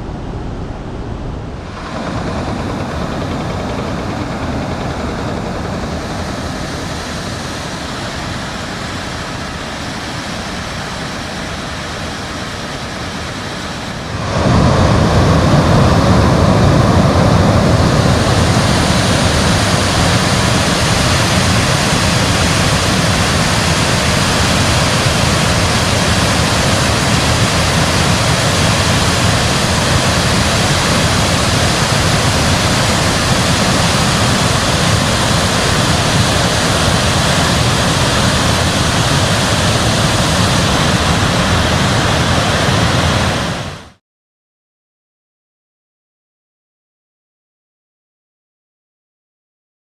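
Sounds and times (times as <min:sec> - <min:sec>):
waterfall rushing: 0:01.5 - 0:44.0.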